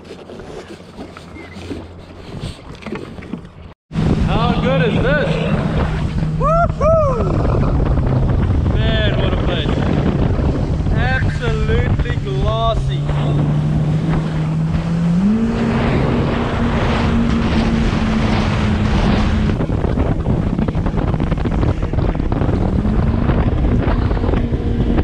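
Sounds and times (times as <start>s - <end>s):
personal watercraft engine running: 0.0s - 25.0s
wind on microphone: 3.9s - 25.0s.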